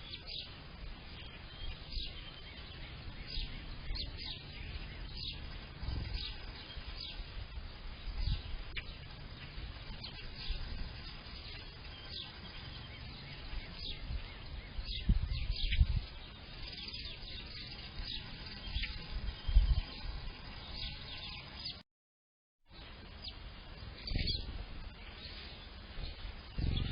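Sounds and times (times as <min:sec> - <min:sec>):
wind on microphone: 0:00.0 - 0:21.3, 0:25.8 - 0:26.9
songbirds chirping: 0:00.0 - 0:21.8, 0:22.7 - 0:26.9.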